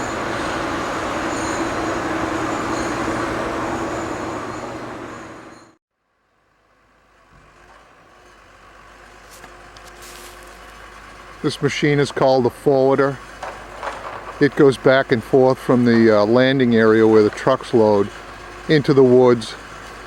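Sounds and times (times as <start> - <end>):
diesel engine running: 0.0 - 5.8, 7.0 - 20.0
faint machine engine: 0.0 - 20.0.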